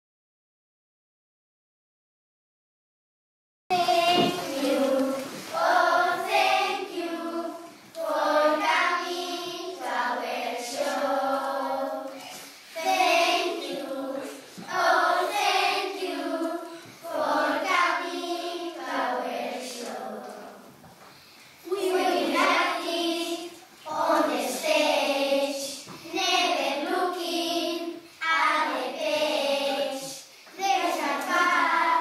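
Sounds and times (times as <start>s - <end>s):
children singing in unison: 3.7s - 20.8s, 21.6s - 32.0s.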